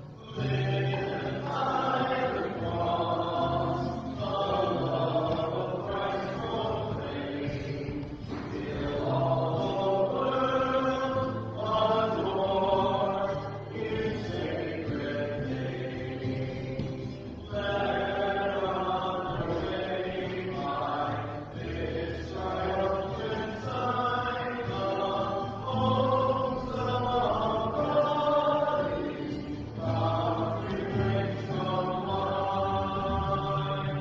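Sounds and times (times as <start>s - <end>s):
voices singing a slow hymn: 0.0s - 34.0s.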